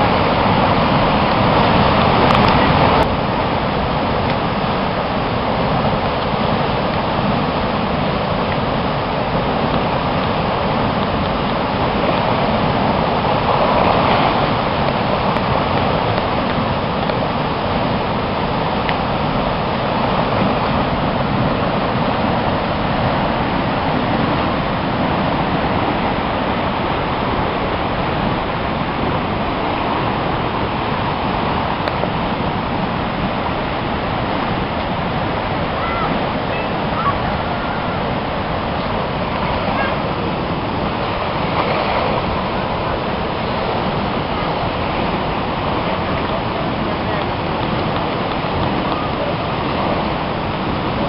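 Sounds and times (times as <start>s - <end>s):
floodwater rushing: 0.0s - 51.0s.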